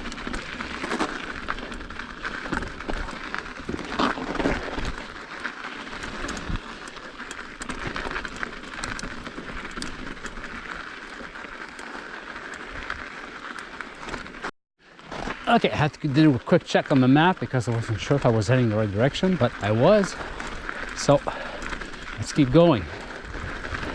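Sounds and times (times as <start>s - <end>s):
bike clicks and rattles: 0.0s - 23.9s
bike tyres rolling on ice: 0.0s - 23.9s.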